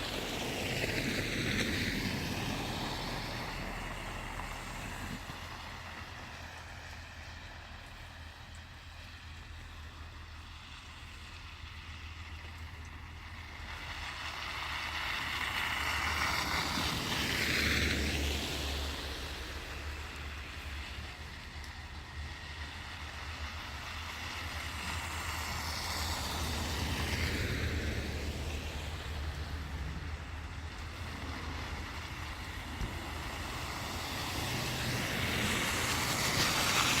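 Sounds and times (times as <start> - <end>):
tyres hissing on slushy street: 0.0 - 37.0.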